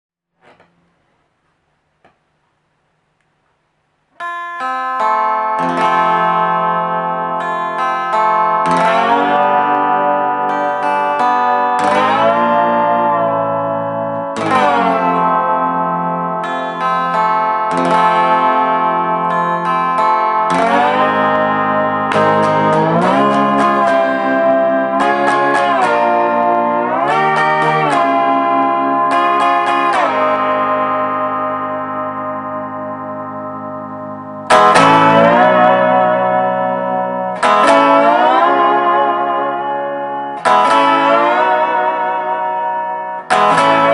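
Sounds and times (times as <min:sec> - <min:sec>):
lap steel slide guitar chords: 0:04.2 - 0:43.9.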